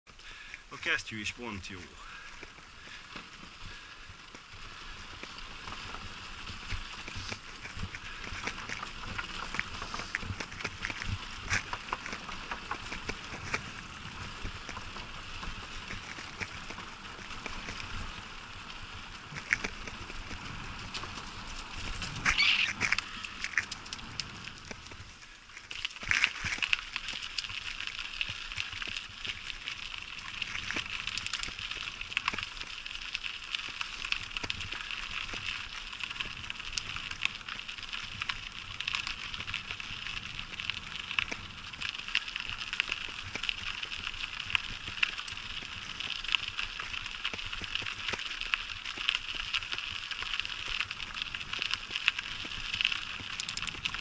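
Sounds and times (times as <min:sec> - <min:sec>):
bicycle rolling over wooden planks: 0:02.0 - 0:54.0.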